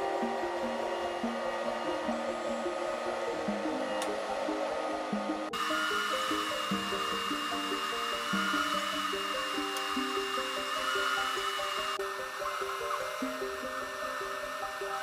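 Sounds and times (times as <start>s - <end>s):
background music with stepped notes: 0.0s - 15.0s
resin printer whirring: 0.0s - 15.0s
thin high whine: 0.0s - 15.0s.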